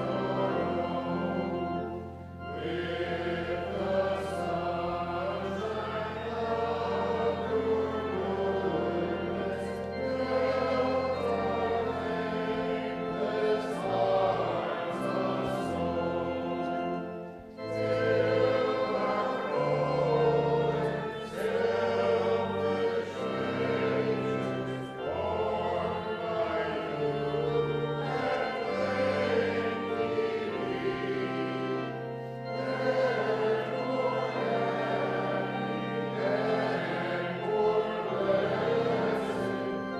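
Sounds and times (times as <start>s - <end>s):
keyboard accompaniment: 0.0s - 39.9s
people singing a hymn: 0.0s - 39.9s.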